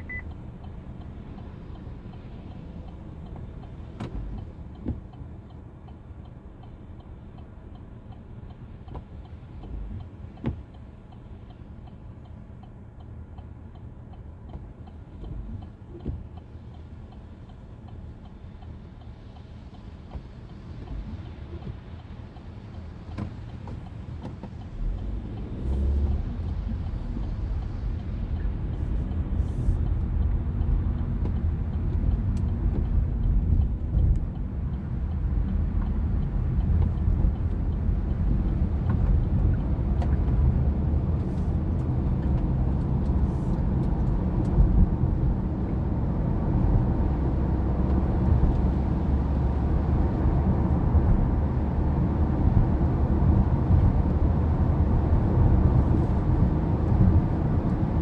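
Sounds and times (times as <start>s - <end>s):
vehicle engine rumbling: 0.0s - 11.9s, 14.4s - 58.0s.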